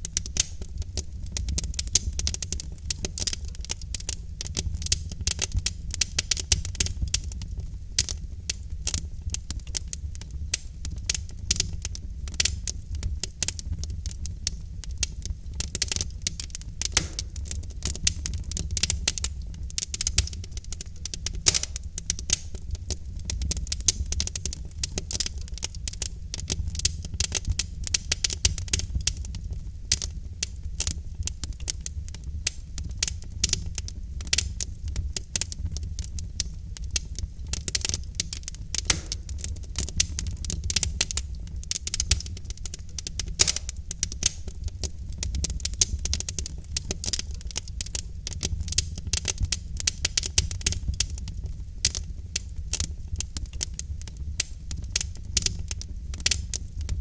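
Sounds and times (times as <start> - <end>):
logs crackling and popping in fire: 0.0 - 57.0
low fire rumble: 0.0 - 57.0.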